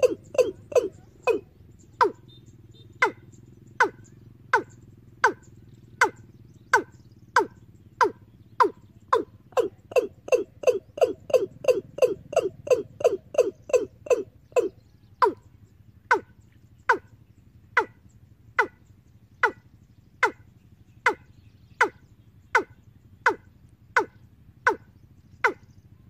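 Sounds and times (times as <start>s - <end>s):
low electrical hum: 0.0s - 26.0s
recorded bird call on loudspeaker: 0.0s - 26.0s.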